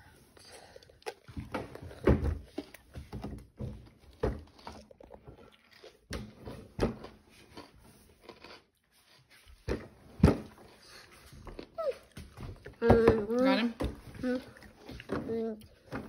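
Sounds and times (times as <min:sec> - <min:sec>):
child chewing crunchy pretzel: 0:00.0 - 0:16.0.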